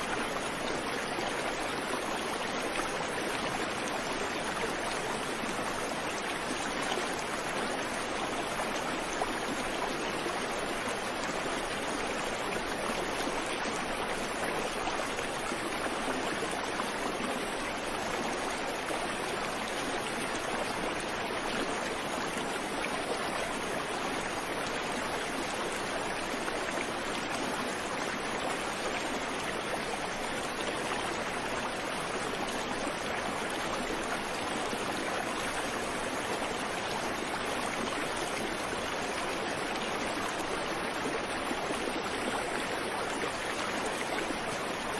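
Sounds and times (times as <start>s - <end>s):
creek water flowing over rocks: 0.0s - 44.9s.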